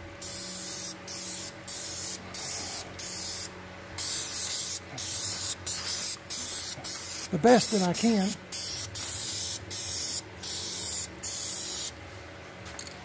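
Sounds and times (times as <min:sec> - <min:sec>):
aerosol spray can hissing: 0:00.3 - 0:11.9.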